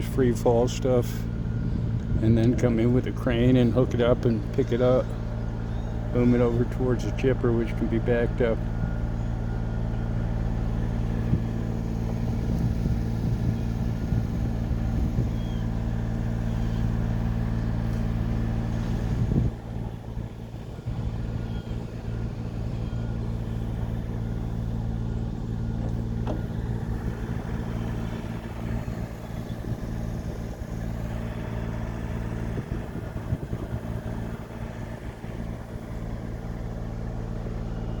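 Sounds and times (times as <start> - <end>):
large engine rumbling: 0.0 - 38.0.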